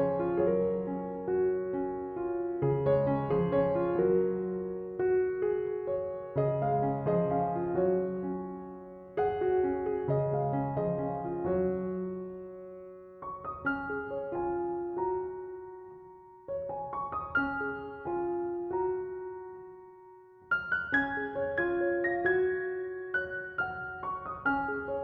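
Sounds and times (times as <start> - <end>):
gentle piano music: 0.0 - 25.0.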